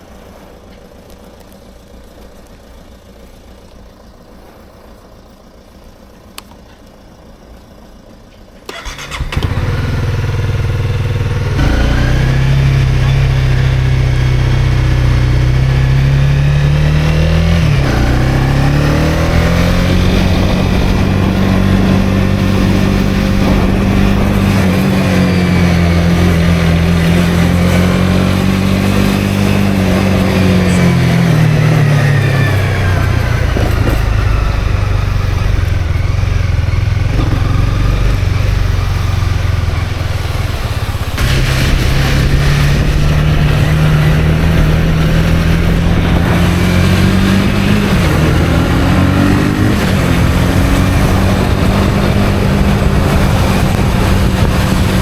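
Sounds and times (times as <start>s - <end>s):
motorcycle engine revving: 8.7s - 55.0s.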